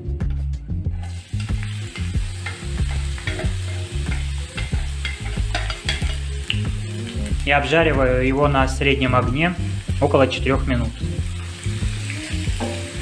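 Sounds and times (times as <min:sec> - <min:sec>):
onion sizzling in hot oil: 0:00.9 - 0:13.0.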